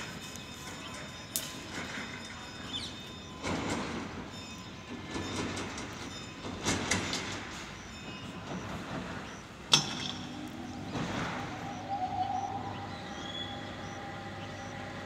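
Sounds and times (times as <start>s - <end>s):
locomotive clanking: 0.0s - 15.0s
train wheels on rails: 0.0s - 15.0s.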